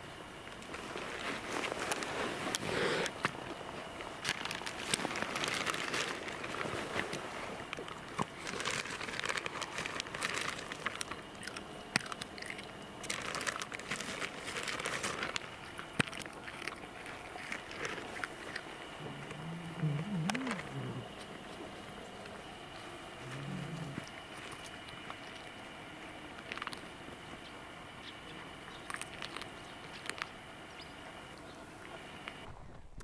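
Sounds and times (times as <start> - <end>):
cats crunching fish: 0.4 - 32.8.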